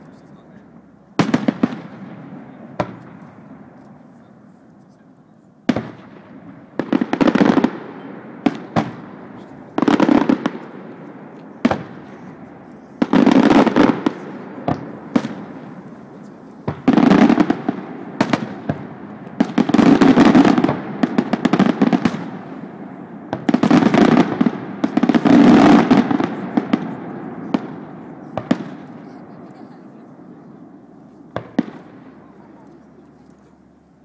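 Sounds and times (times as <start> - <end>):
firework crackling: 0.0 - 34.0
firework shells booming: 0.7 - 4.1, 5.6 - 29.4, 30.1 - 32.6
sharp firework cracks: 1.2 - 4.0, 5.7 - 29.2, 31.3 - 32.2.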